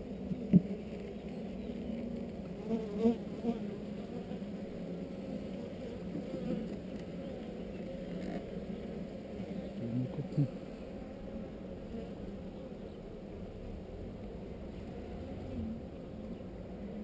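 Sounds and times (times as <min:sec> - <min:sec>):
honeybees humming: 0:00.0 - 0:17.0.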